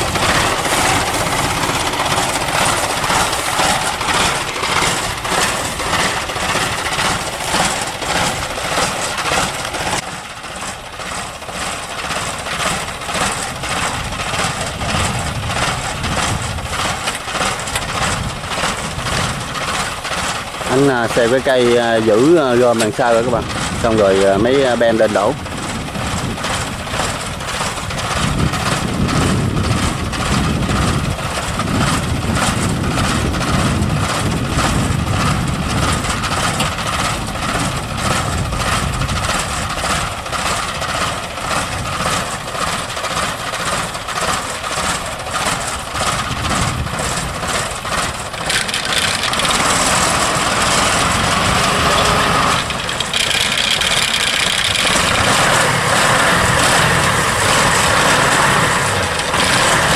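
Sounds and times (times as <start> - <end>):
machine engine clattering: 0.0 - 59.9
steady whine: 0.0 - 59.9.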